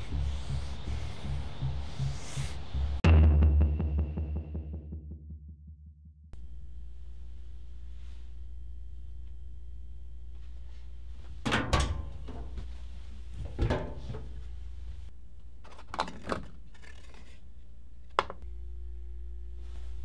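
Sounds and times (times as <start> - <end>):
steady low hum: 0.0 - 15.6, 17.8 - 20.0.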